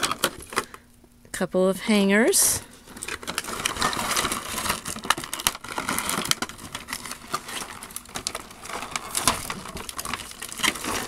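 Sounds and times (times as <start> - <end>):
plastic bag crinkling: 0.0 - 0.9, 2.6 - 11.0.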